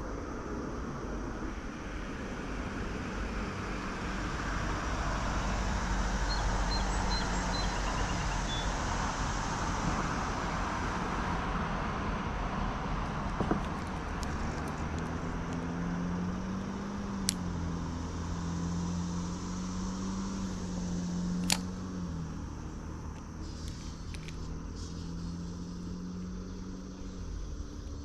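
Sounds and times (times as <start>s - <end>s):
vehicle passing: 2.6s - 28.0s.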